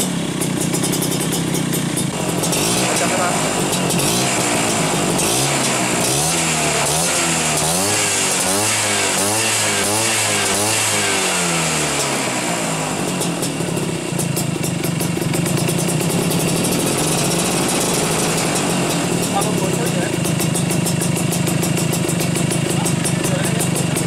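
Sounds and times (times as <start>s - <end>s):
scooter engine revving and idling: 0.0s - 24.0s.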